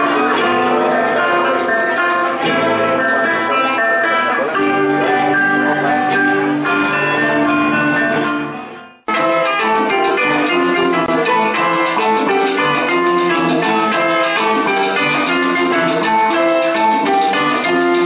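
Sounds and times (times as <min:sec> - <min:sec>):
salsa band music: 0:00.0 - 0:18.0.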